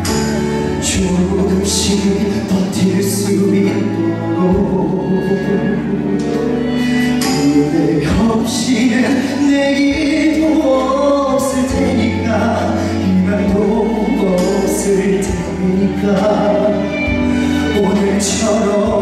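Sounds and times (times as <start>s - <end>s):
instrumental accompaniment: 0.0s - 19.0s
man singing into microphone: 0.0s - 19.0s.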